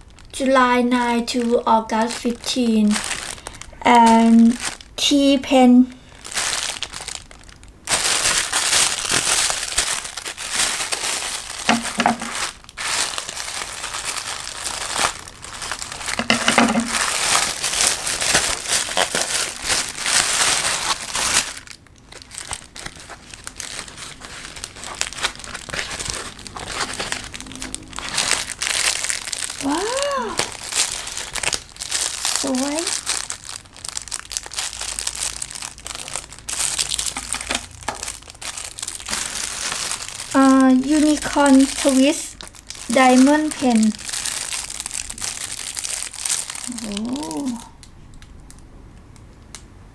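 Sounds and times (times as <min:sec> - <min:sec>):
plastic packaging crinkling: 0:00.0 - 0:48.6.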